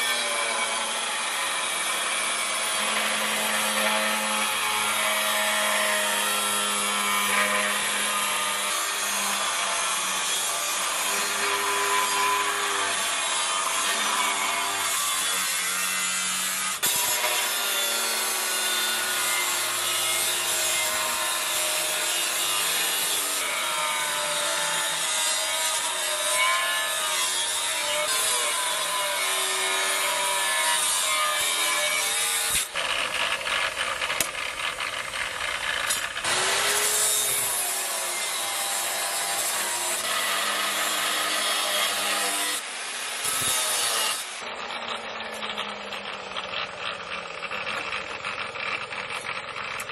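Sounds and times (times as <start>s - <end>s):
angle grinder cutting steel: 0.0s - 49.9s.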